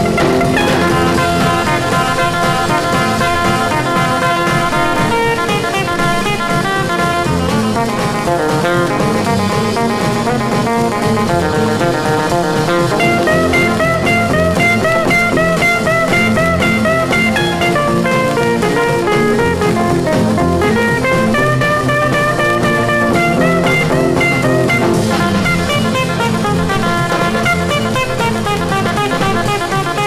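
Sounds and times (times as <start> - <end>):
drums: 0.0 - 30.0
picked guitar melody: 0.0 - 30.0.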